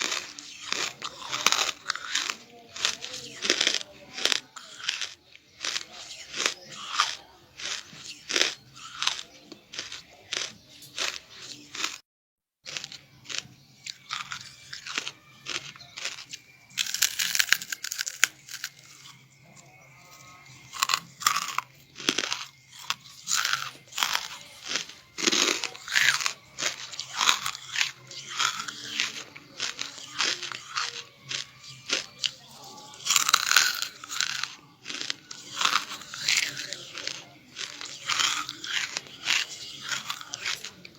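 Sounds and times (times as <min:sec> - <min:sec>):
crunchy charcoal chewing: 0:00.0 - 0:12.0, 0:12.6 - 0:40.9.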